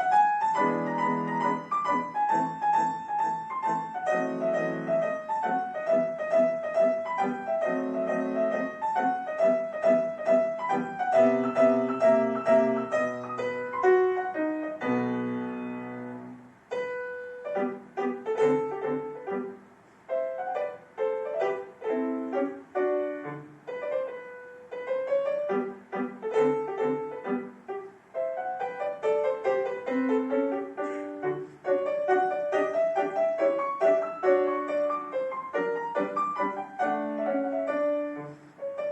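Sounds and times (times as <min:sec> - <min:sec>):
solo piano classical piece: 0:00.0 - 0:38.9.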